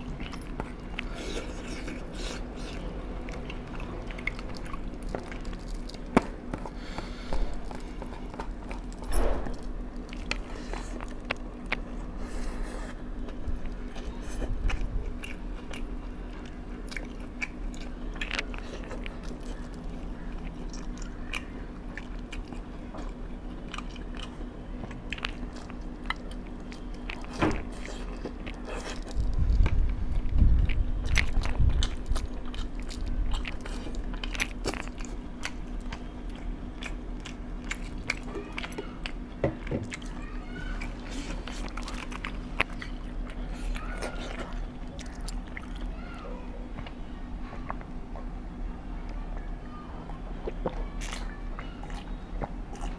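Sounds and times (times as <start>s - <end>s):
person chewing crunchy food: 0.0s - 45.9s, 50.0s - 52.9s
steady low hum: 0.0s - 52.9s.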